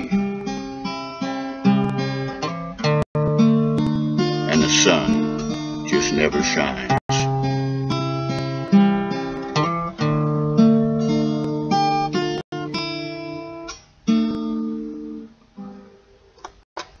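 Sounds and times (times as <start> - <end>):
acoustic guitar fingerpicked: 0.0 - 17.0.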